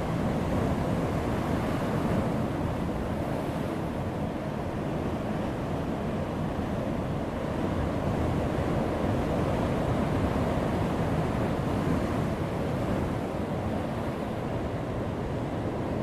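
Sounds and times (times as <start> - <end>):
ocean surf on rocks: 0.0 - 16.0.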